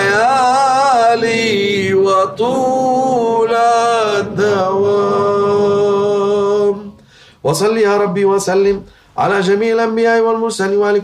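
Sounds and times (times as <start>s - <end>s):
man chanting unaccompanied: 0.0s - 11.0s.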